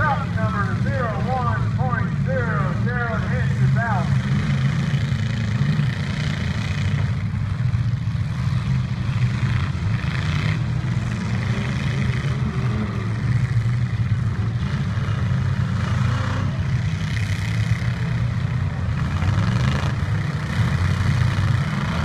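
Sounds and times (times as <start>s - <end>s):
truck engines rumbling: 0.0s - 22.0s.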